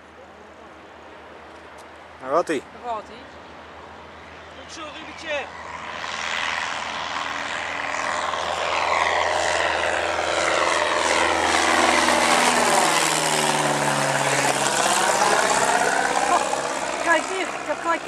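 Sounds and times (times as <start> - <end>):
propeller plane flying overhead: 0.0 - 18.0.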